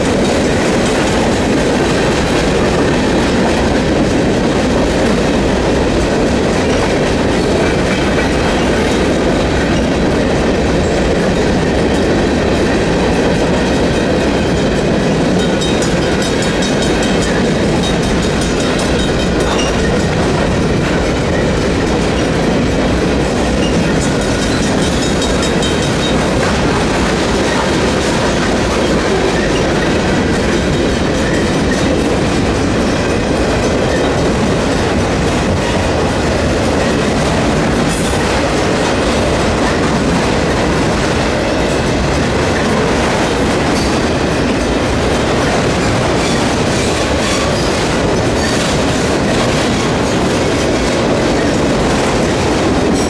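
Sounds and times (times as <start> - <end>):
train wheels rumbling on rail: 0.0 - 53.0
wheels clacking over rail joints: 0.0 - 53.0.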